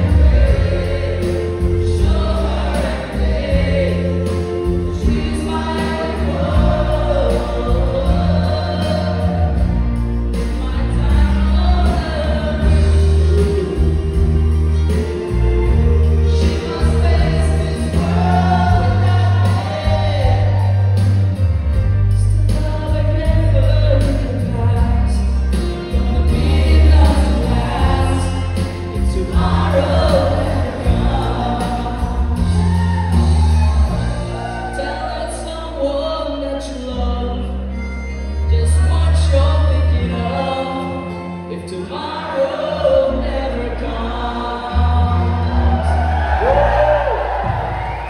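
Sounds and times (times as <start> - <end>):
musical accompaniment with heavy bass: 0.0 - 48.0.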